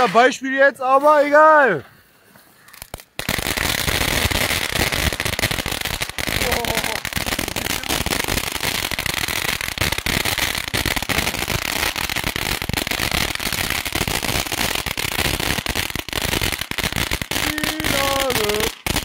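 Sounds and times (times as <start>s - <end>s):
firework fountain hissing and crackling: 2.7s - 19.0s.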